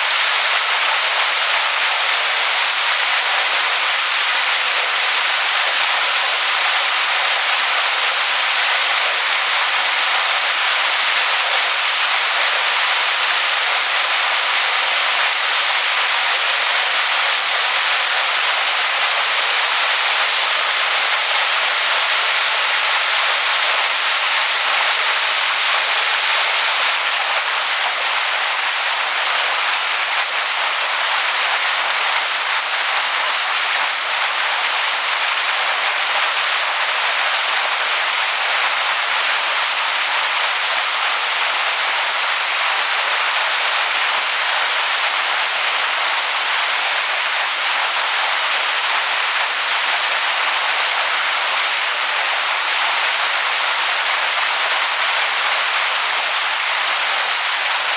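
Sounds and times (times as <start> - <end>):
waterfall splashing onto rocks: 0.0 - 57.9.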